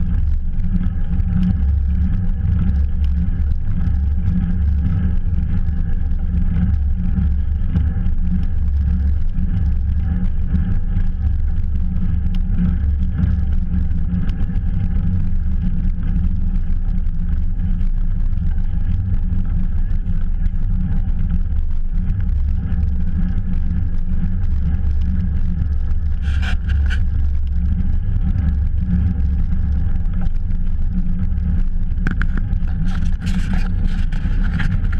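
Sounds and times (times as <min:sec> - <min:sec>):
bicycle rattle: 0:00.0 - 0:34.9
wind buffeting camera microphone: 0:00.0 - 0:34.9.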